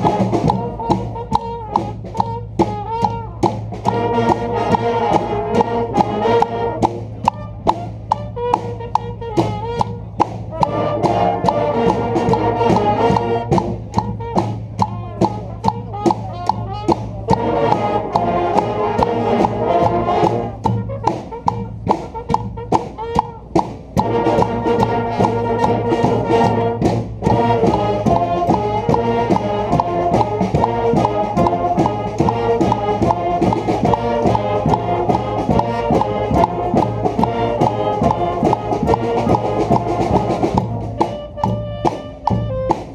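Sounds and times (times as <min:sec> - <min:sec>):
brass band playing rock tune: 0:00.0 - 0:42.9
steady drum beat: 0:00.0 - 0:42.9.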